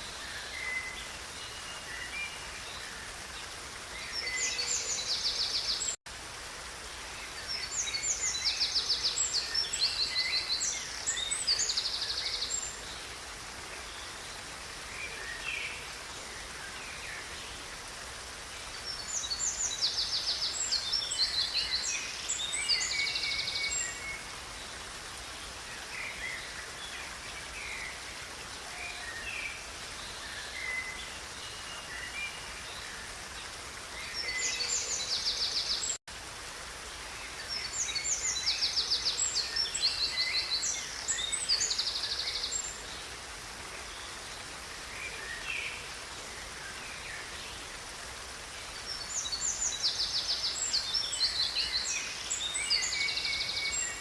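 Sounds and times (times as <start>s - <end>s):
river water running: 0.0s - 54.0s.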